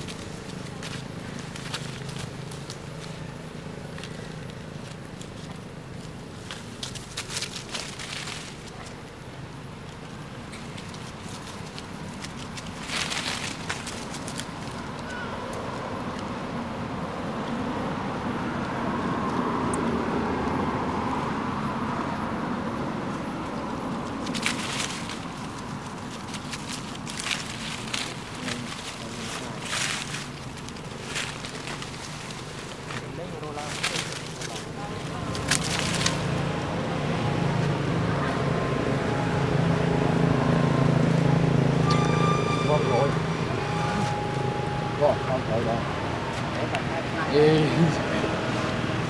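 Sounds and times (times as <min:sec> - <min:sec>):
low engine hum: 0:00.0 - 0:49.0
vehicle passing: 0:00.0 - 0:49.0.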